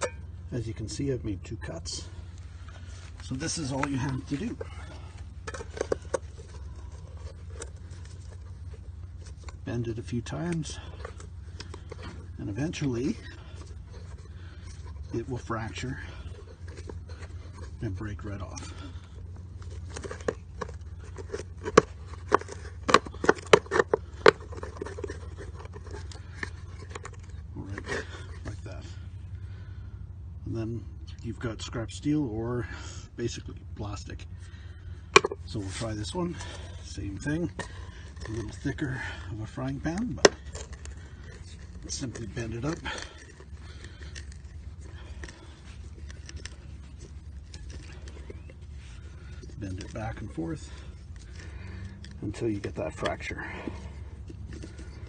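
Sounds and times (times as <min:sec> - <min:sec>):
steady low hum: 0:00.0 - 0:55.0
metal clicks and scrapes: 0:02.6 - 0:28.9, 0:35.0 - 0:55.0.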